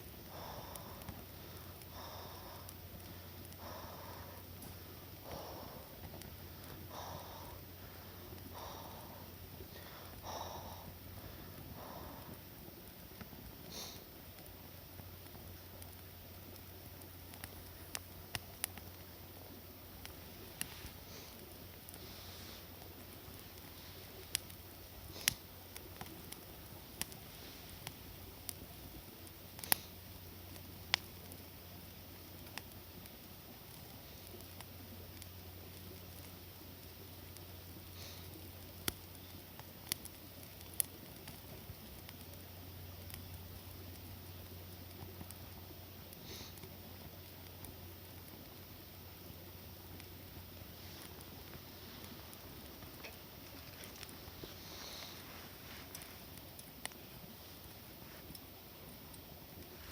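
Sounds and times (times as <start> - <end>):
campfire crackling and popping: 0.0 - 59.9
faint steady hiss: 0.0 - 59.9.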